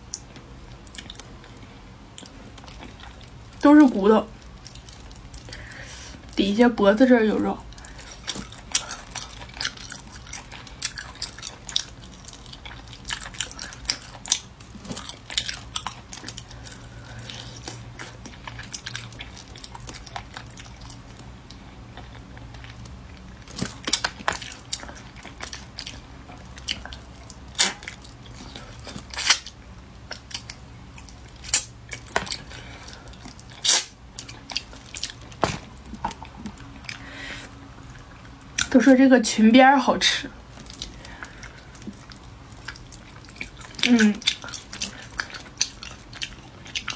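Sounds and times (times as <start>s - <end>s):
chewing and biting: 0.0s - 6.4s, 7.6s - 38.7s, 40.5s - 46.9s.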